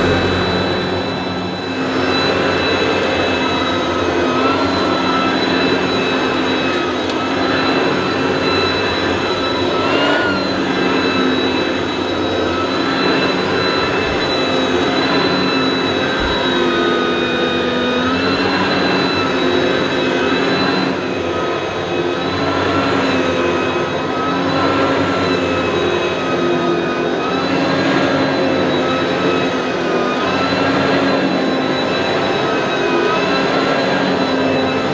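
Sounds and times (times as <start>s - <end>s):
vacuum cleaner whining: 0.0s - 34.9s.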